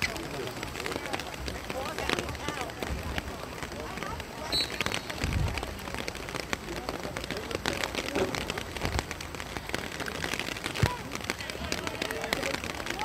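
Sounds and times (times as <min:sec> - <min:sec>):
faint voices: 0:00.0 - 0:13.0
light rain pattering: 0:00.0 - 0:13.0.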